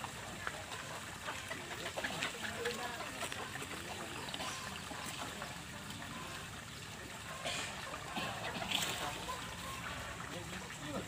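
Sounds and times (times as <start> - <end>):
distant crowd voices: 0.0 - 11.0.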